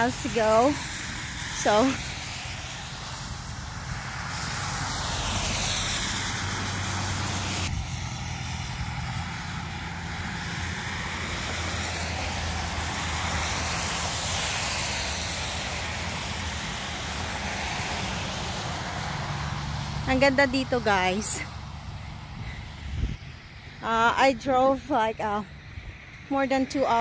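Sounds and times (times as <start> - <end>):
aircraft passing overhead: 0.0 - 27.0.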